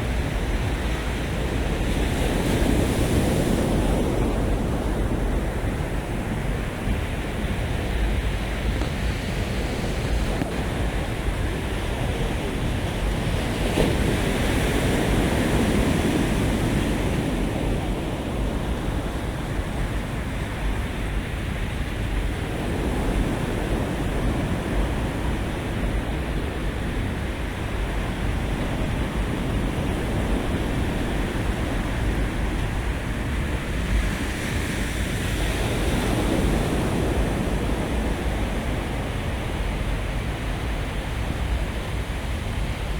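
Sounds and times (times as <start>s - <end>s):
sea waves washing onto beach: 0.0s - 42.9s
wind rumble on microphone: 0.0s - 42.9s.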